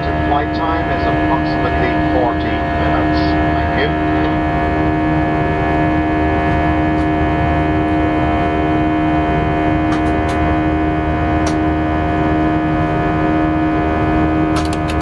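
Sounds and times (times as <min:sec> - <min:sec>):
jet engines droning: 0:00.0 - 0:15.0
whining tones: 0:00.0 - 0:15.0.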